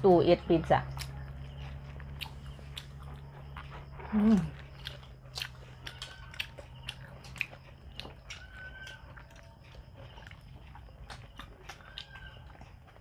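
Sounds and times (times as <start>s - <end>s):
person chewing food: 0.8s - 13.0s.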